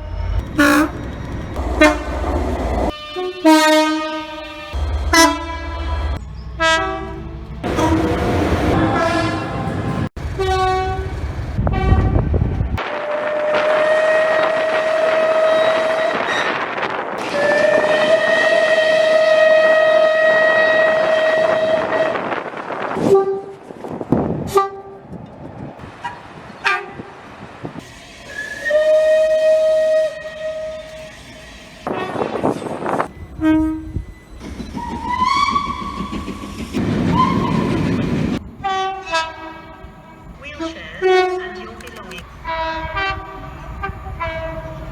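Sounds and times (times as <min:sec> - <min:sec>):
train horns blasting: 0:00.0 - 0:16.6, 0:17.2 - 0:22.4, 0:23.0 - 0:23.7, 0:24.4 - 0:25.0, 0:26.6 - 0:27.2, 0:28.3 - 0:34.2, 0:38.6 - 0:44.9
trains running: 0:00.0 - 0:44.9.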